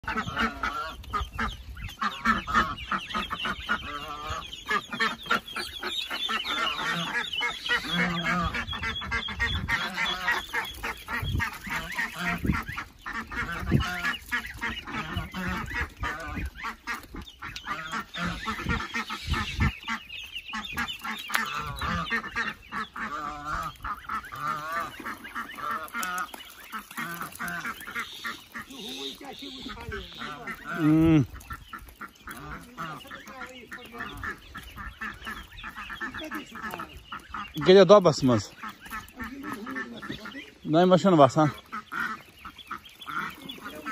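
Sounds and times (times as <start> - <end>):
ducks calling: 0.0 - 43.9
geese honking: 0.0 - 43.9.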